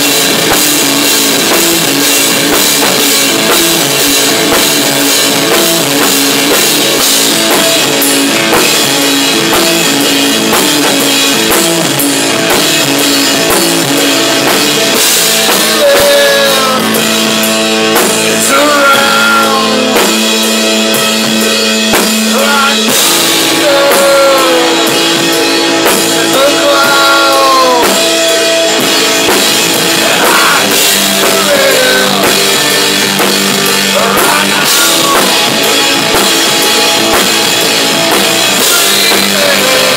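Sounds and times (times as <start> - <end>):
rock band playing live: 0.0 - 39.9
sliding high guitar notes: 0.0 - 39.9.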